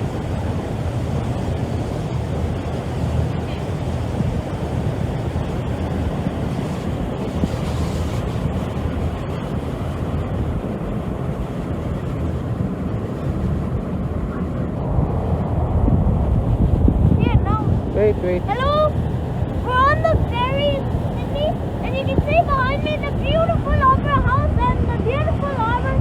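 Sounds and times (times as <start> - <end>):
low engine drone: 0.0 - 26.0
water rushing: 0.0 - 26.0
wind buffeting microphone: 0.0 - 26.0.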